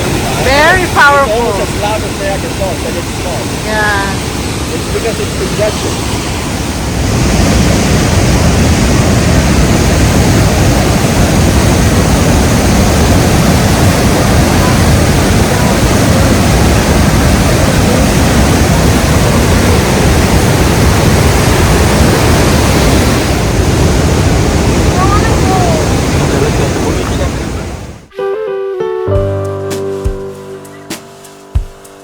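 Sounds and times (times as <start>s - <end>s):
waterfall rushing: 0.0s - 28.1s.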